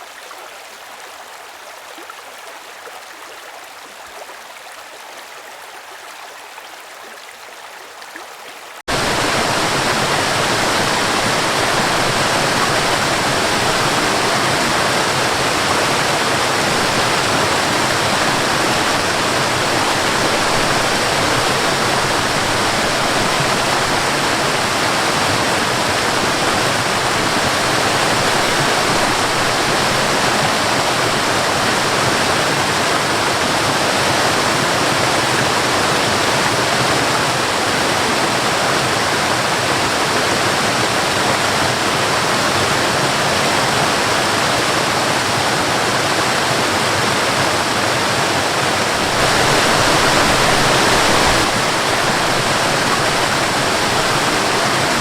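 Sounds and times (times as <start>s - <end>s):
quiet stream: 0.0s - 55.0s
waterfall rushing: 8.8s - 55.0s.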